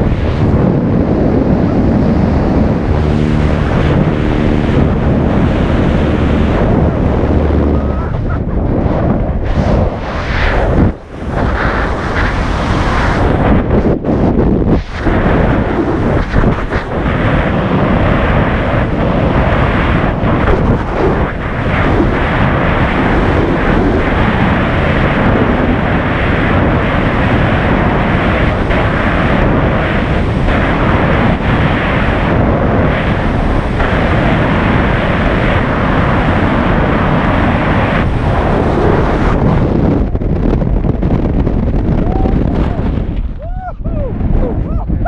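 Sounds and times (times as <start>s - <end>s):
freefall air rushing: 0.0s - 45.0s.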